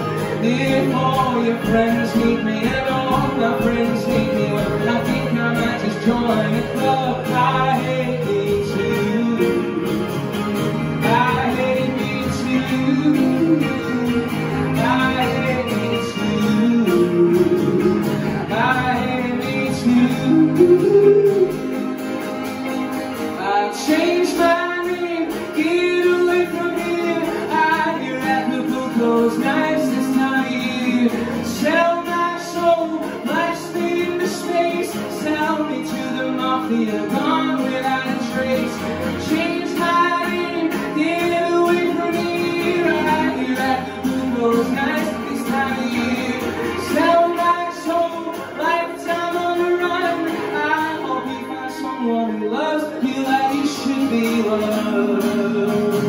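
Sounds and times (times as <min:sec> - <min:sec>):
person singing without words: 0:00.0 - 0:10.2, 0:11.0 - 0:21.9, 0:23.4 - 0:56.0
acoustic and electric guitars: 0:00.0 - 0:56.0.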